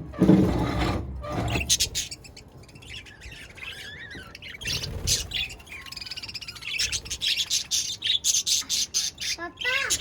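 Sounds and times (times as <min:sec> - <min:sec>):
budgerigars chirping and warbling: 0:01.2 - 0:10.0.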